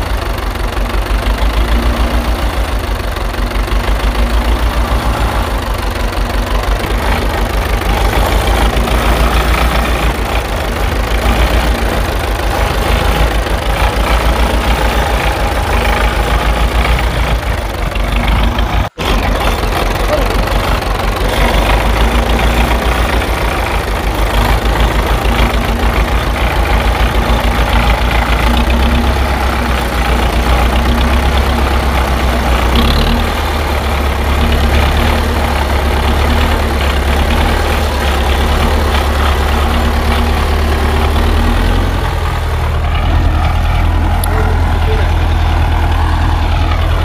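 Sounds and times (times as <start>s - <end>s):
tractor engine idling: 0.0s - 47.0s.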